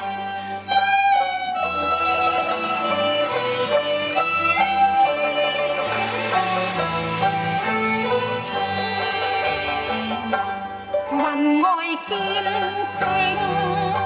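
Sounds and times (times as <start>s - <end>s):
bowed strings ensemble: 0.0s - 14.0s.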